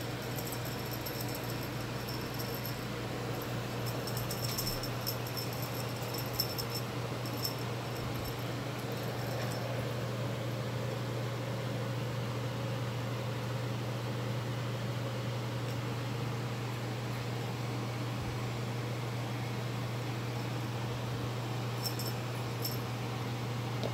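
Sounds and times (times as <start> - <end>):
steady low hum: 0.0 - 12.6, 15.8 - 23.9.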